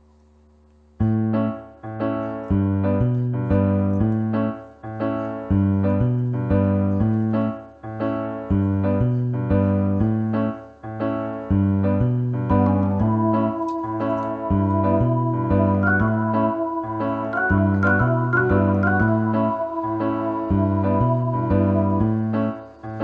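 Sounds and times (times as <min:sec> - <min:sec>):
piano-like keyboard notes: 0:01.0 - 0:23.0.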